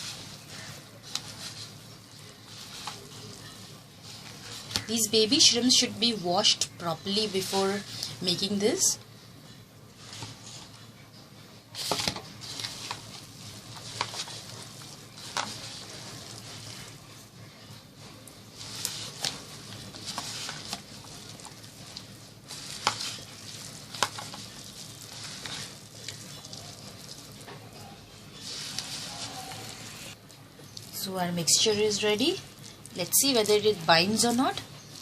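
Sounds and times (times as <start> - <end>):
wet mixture stirred in a bowl: 0.0 - 35.0.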